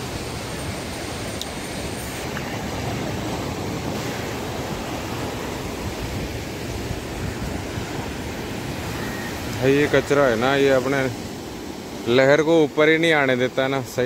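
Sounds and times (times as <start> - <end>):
wind rumbling on microphone: 0.0 - 12.2
surf breaking on rocky shore: 0.0 - 14.0.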